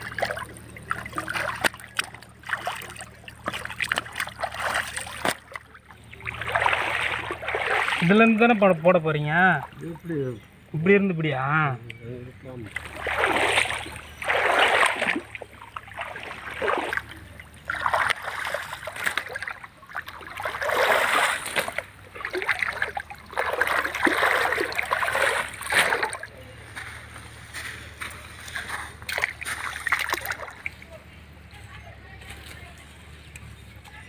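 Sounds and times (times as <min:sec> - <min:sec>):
water splashing and sloshing: 0:00.0 - 0:10.9, 0:12.4 - 0:34.0.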